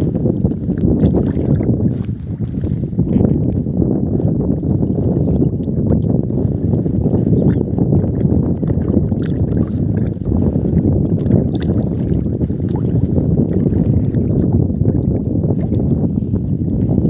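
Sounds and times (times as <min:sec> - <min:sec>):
water lapping against boat: 0:00.0 - 0:17.0
wind on microphone: 0:00.0 - 0:17.0.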